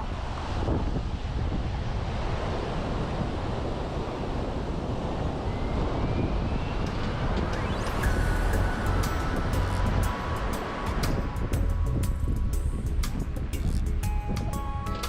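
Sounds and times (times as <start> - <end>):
sea surf: 0.0 - 15.0
wind rumbling on microphone: 0.0 - 15.0.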